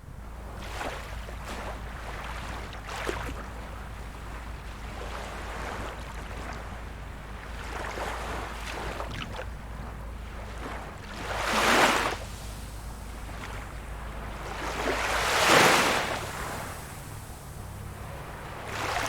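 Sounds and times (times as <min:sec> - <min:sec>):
sea waves washing in: 0:00.0 - 0:19.0
steady low rumble: 0:00.0 - 0:19.0.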